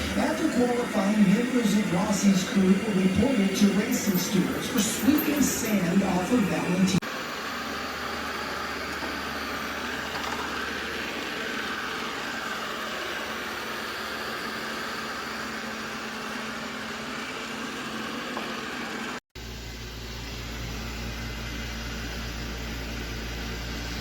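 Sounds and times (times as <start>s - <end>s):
robot vacuum whirring: 0.0s - 19.2s.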